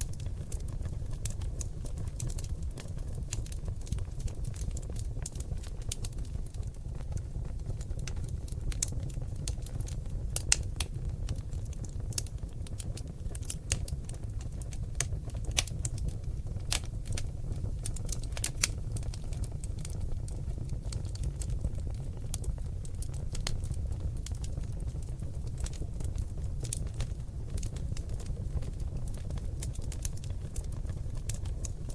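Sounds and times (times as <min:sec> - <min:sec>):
logs crackling and popping: 0:00.0 - 0:31.9
low rumble of flames: 0:00.0 - 0:31.9.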